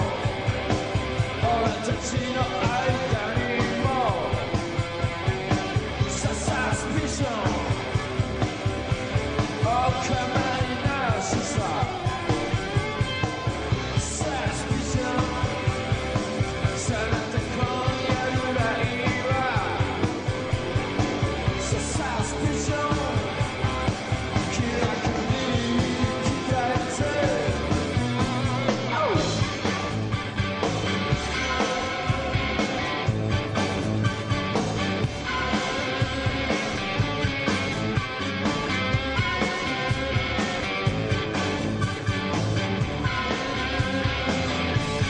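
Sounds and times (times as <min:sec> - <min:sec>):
rock band playing live: 0:00.0 - 0:45.0.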